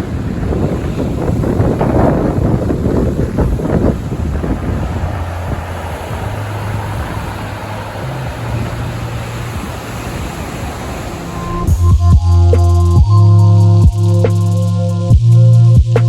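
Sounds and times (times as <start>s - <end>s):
boat engine humming: 0.0s - 16.0s
wind noise on microphone: 0.0s - 16.0s.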